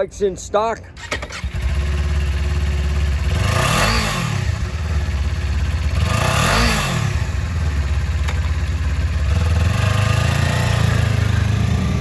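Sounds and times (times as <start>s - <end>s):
motorcycle engine idling and revving: 1.0s - 12.0s.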